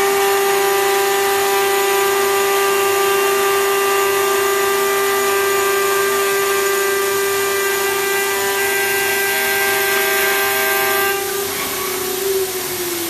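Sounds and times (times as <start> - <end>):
cutting machine whining: 0.0 - 13.0.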